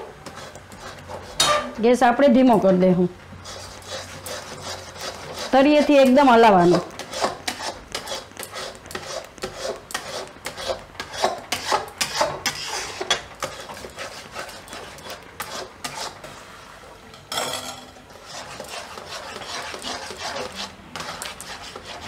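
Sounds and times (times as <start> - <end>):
metal spatula scraping a pan: 0.0 - 1.8, 3.4 - 22.0.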